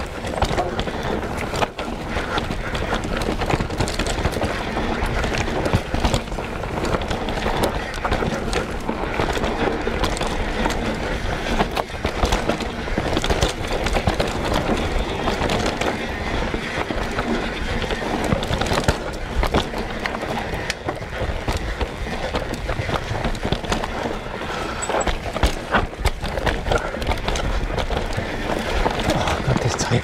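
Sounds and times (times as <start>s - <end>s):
bike rattling and knocking: 0.0s - 29.7s
tyres rolling over dirt: 0.0s - 30.0s.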